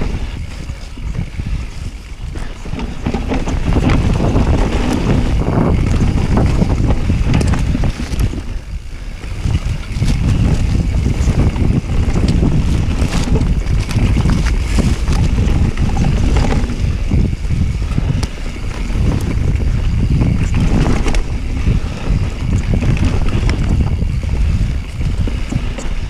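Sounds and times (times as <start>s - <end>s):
bike clicks and rattles: 0.0s - 26.0s
tyres on dirt and leaves: 0.0s - 26.0s
wind buffeting microphone: 0.0s - 26.0s.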